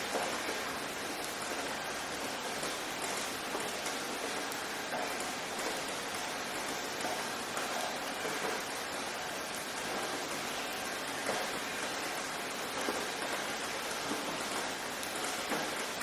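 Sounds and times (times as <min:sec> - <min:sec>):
raindrops pattering on a surface: 0:00.0 - 0:16.0
steady rain hiss: 0:00.0 - 0:16.0.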